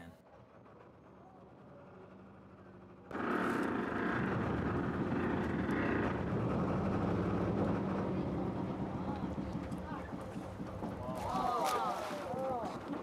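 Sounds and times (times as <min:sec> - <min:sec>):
boat motor rumbling: 0:02.1 - 0:13.0.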